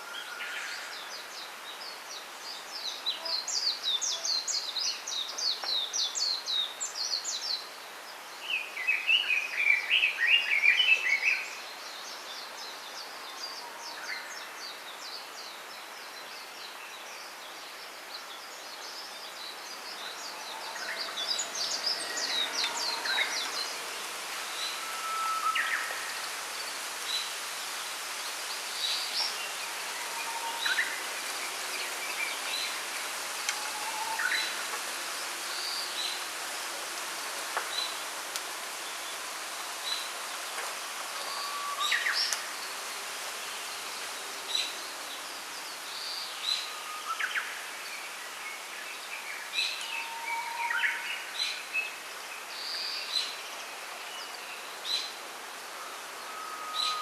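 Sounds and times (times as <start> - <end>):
soft steady hiss: 0.0 - 57.0.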